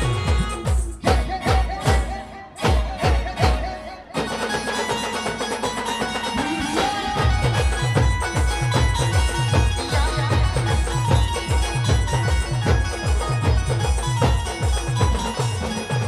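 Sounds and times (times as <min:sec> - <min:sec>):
band playing held melody notes: 0:00.0 - 0:16.0
fast steady drum beat: 0:00.0 - 0:16.0.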